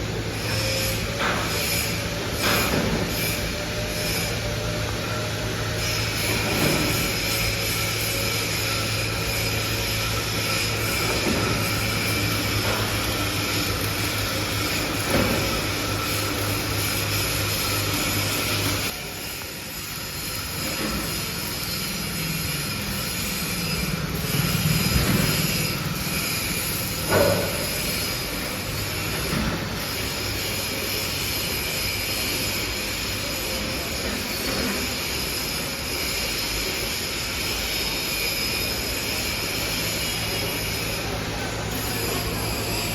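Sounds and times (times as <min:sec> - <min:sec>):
machinery motor hum and whine: 0:00.0 - 0:42.9.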